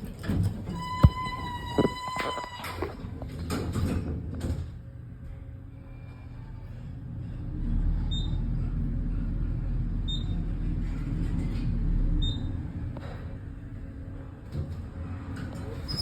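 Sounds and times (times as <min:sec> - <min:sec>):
elevator low rumble: 0:00.0 - 0:16.0.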